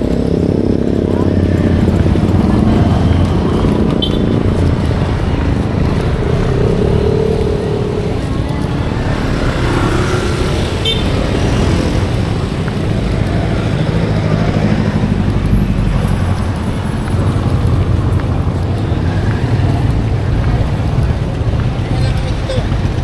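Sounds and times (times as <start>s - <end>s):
car engine passing close: 0.0s - 21.2s
cars and motorcycles passing: 0.0s - 23.0s.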